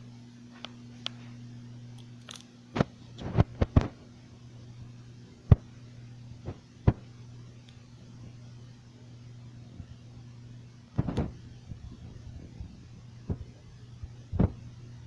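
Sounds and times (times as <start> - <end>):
ceiling fan motor humming: 0.0 - 15.0.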